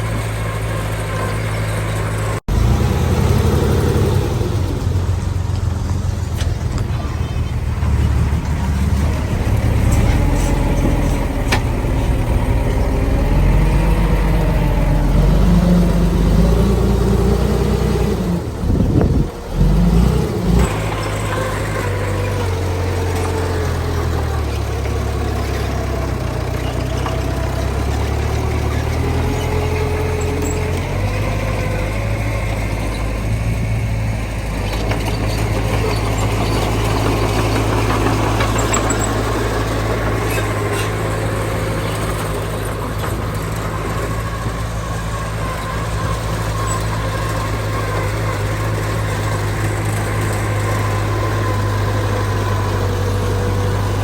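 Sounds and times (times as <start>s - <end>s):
diesel earthmoving machinery running: 0.0s - 54.0s.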